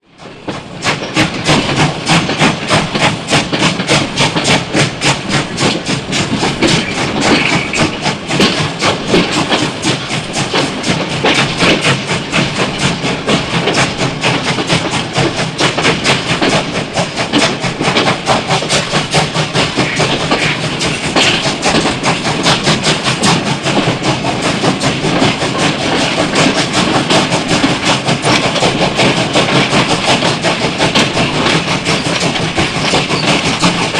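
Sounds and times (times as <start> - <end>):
steam train rhythmic chugging: 0.0 - 33.9.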